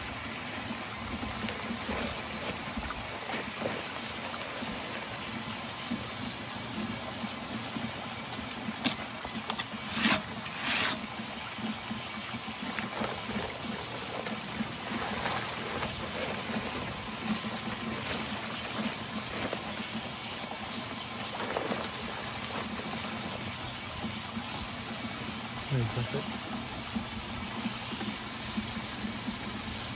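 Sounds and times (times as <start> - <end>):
water spraying from hose nozzle: 0.0 - 29.9.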